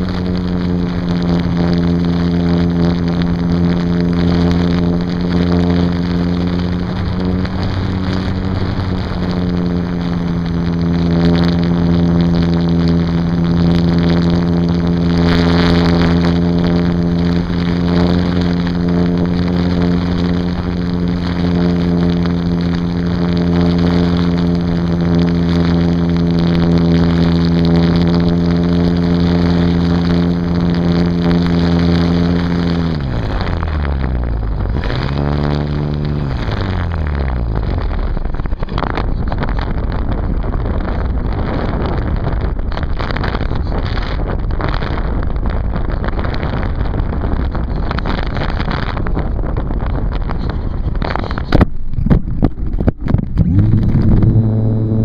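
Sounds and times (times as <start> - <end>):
model plane motor drone: 0.0 - 51.6, 52.5 - 55.0
wind rushing over microphone: 0.0 - 55.0.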